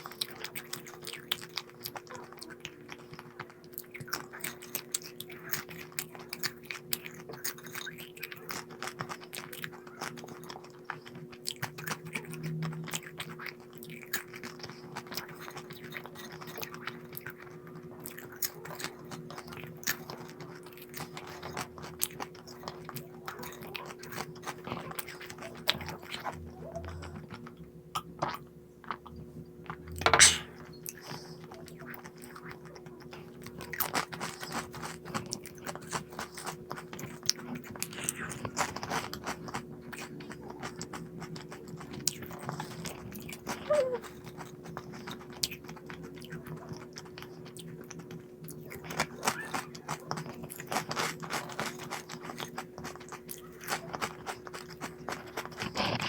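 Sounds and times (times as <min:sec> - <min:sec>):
chewing crunchy snack food: 0:00.0 - 0:56.0
faint steady hum: 0:00.0 - 0:56.0.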